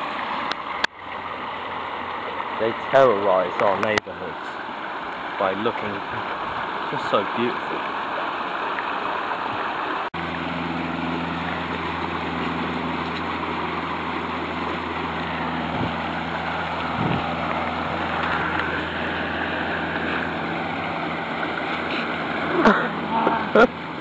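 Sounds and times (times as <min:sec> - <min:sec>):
water rushing over weir: 0:00.0 - 0:24.0
low hum: 0:04.3 - 0:24.0.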